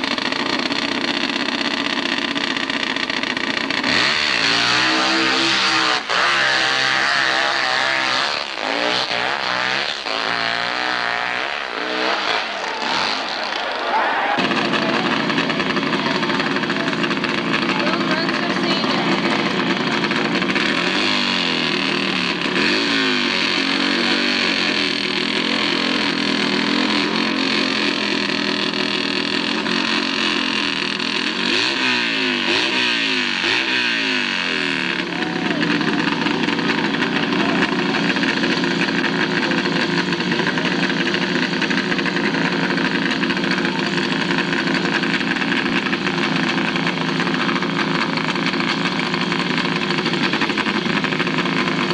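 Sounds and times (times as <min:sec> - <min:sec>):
racing motorcycle engine revving: 0:00.0 - 0:51.9.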